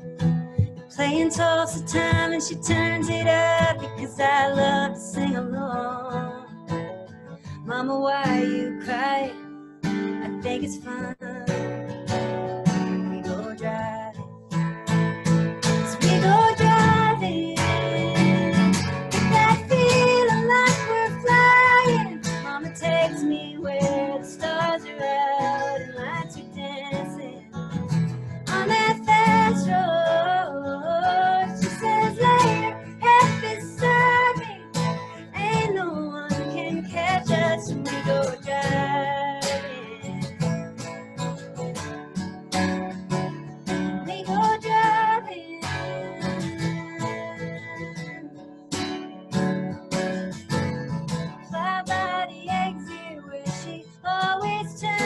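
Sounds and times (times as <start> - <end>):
acoustic guitar strumming: 0.0 - 55.0
woman singing: 0.5 - 11.8, 12.9 - 14.3, 15.8 - 27.6, 28.4 - 40.5, 43.8 - 49.0, 51.4 - 55.0.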